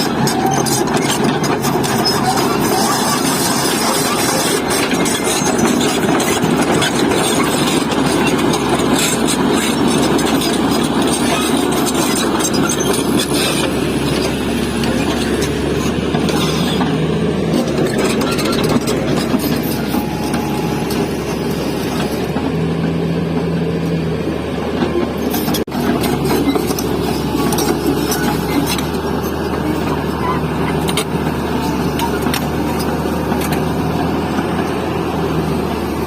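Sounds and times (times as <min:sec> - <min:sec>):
diesel excavator engine running: 0:00.0 - 0:36.0.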